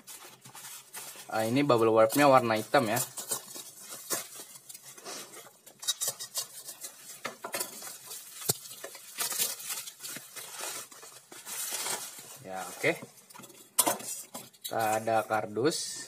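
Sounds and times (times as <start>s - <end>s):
bubble wrap crinkling: 0.0s - 15.5s.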